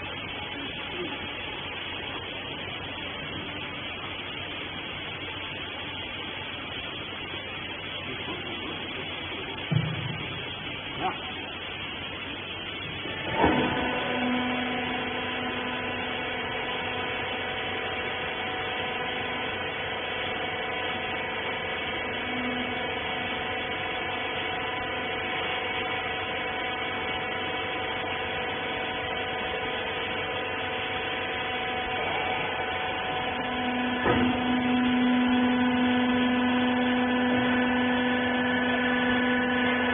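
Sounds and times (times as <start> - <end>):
electric motor and pump humming: 0.0 - 39.9.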